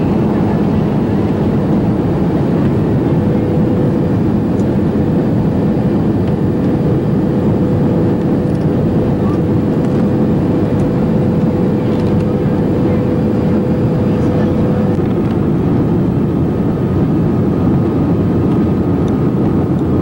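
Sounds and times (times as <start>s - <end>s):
airliner engine and airflow rush: 0.0s - 20.0s.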